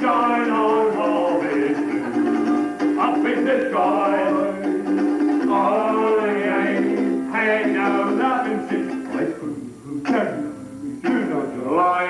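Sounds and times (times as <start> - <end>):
person singing with music: 0.0 - 12.0.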